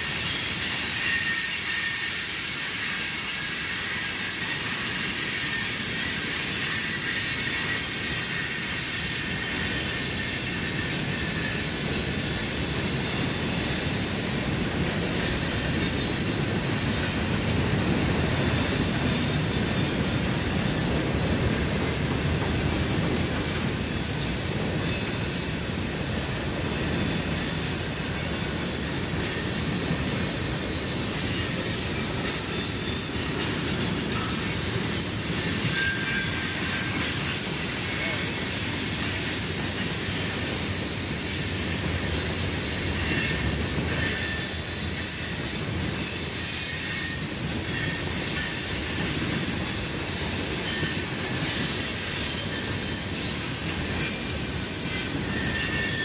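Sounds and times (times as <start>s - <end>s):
high thin wheel squeal: 0.0s - 56.0s.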